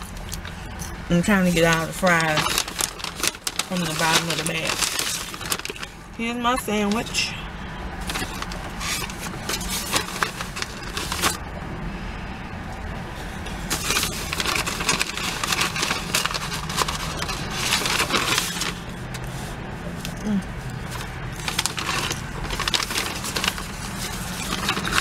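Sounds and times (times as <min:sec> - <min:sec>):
paper bag rustling and crinkling: 0:00.0 - 0:07.3, 0:08.0 - 0:11.4, 0:13.2 - 0:25.0.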